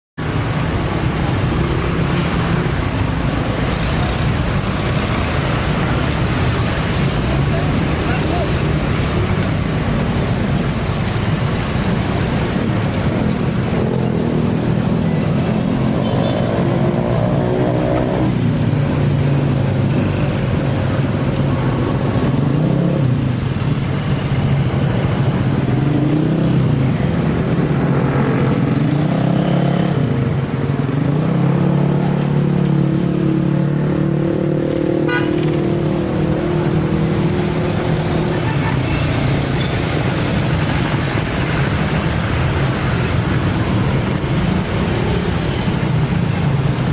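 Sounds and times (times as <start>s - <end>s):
vehicle engines revving in traffic: 0.2s - 46.9s.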